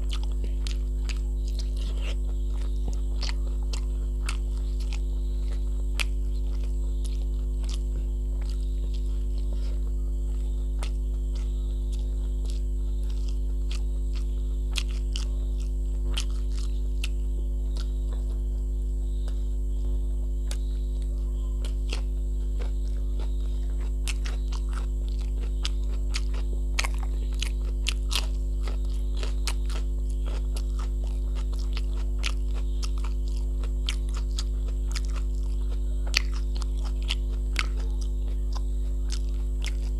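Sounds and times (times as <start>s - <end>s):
chewing and lip-smacking: 0.0s - 39.9s
electrical mains hum: 0.0s - 39.9s.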